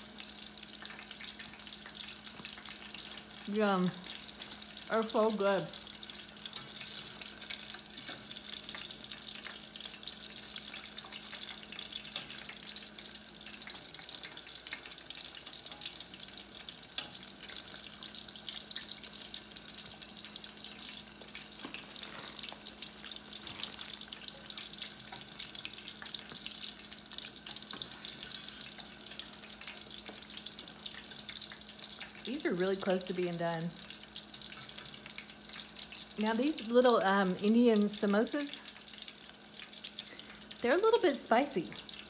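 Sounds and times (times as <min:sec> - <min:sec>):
oil sizzling and crackling: 0:00.0 - 0:42.0.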